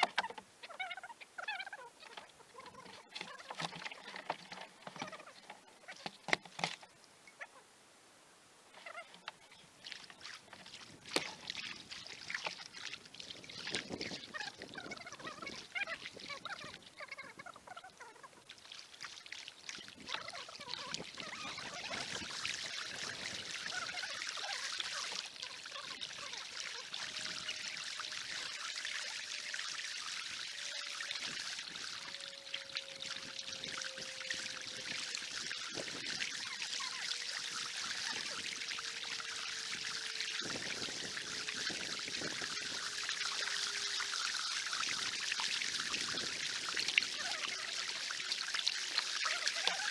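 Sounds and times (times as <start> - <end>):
paddle splashing water: 0.0 - 7.0, 8.8 - 49.9.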